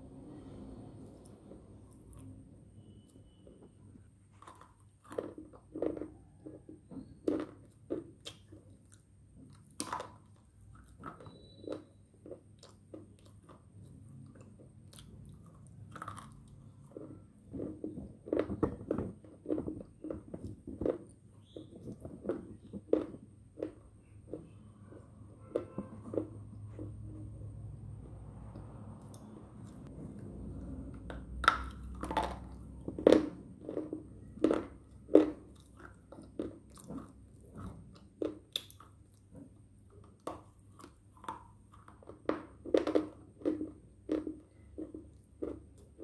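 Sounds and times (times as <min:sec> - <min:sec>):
crunchy chewing: 0:04.3 - 0:27.3, 0:31.4 - 0:46.0.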